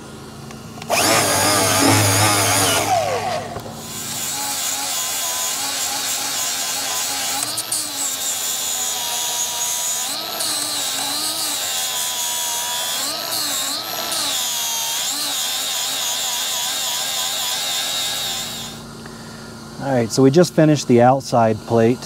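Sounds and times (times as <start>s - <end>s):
angle grinder grinding steel: 0.9s - 18.8s.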